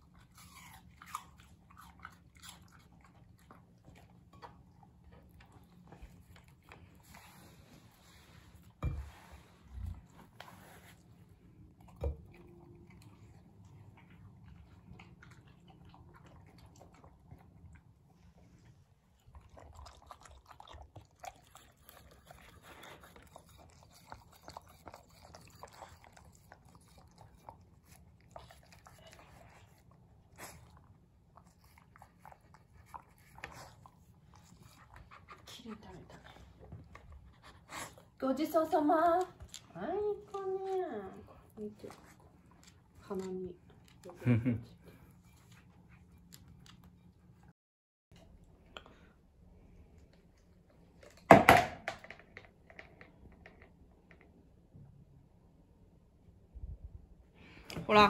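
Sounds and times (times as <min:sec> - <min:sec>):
dog chewing and licking: 0:00.0 - 0:44.2, 0:44.8 - 0:47.5.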